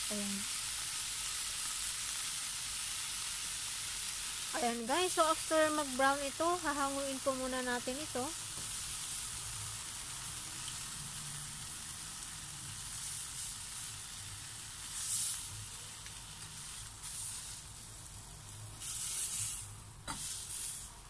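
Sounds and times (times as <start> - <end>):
chicken sizzling in a pan: 0.0 - 21.0.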